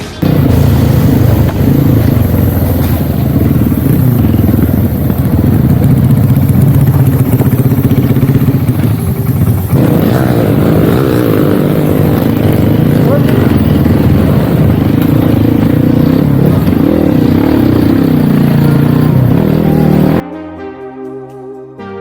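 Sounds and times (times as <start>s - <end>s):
dirt bike engine: 0.0s - 20.2s.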